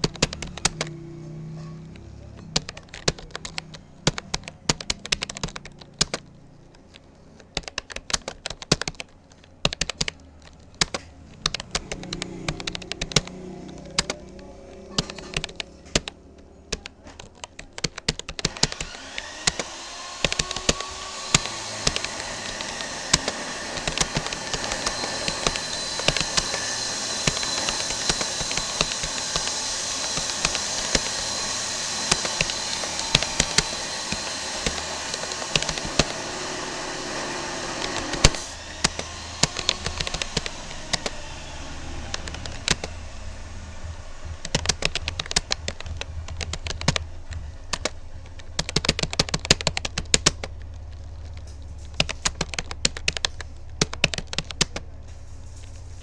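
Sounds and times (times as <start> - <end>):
fast typing on computer keyboard: 0.0 - 56.0
whirring noise with faint whine: 0.0 - 56.0.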